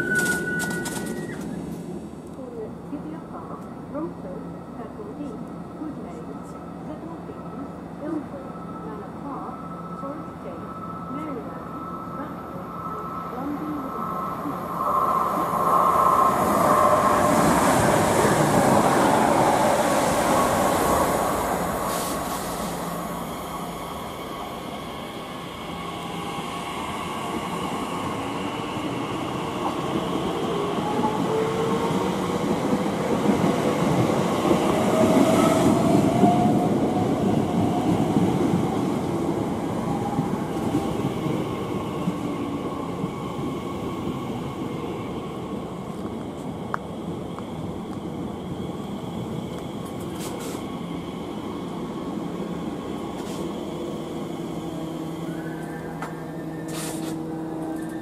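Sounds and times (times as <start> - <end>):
train whine rising in pitch: 0.0 - 1.8, 8.5 - 45.6, 48.3 - 58.0
trains running through station: 0.0 - 58.0.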